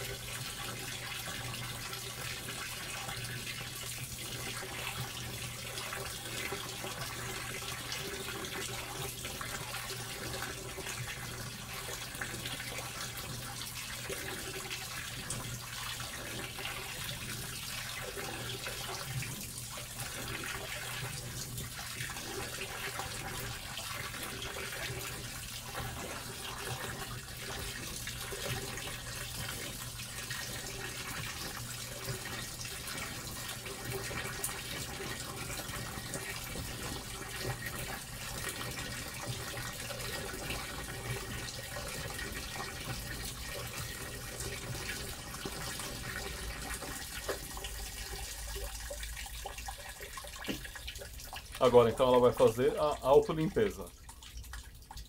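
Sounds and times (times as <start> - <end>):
washer low hum: 0.0 - 55.0
water pouring and splashing: 0.0 - 55.0.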